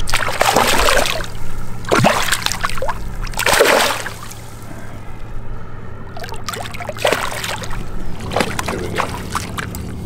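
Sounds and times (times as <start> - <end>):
lake water splashing: 0.0 - 4.6, 6.1 - 10.0
steady low hum: 0.0 - 10.0.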